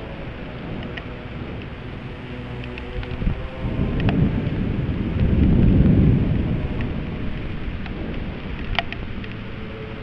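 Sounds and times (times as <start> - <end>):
low rolling thunder: 0.0 - 10.0
rain hissing: 0.0 - 10.0.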